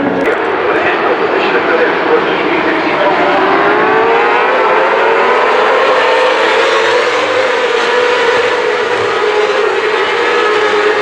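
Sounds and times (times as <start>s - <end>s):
racing engine at high revs: 0.0s - 11.0s.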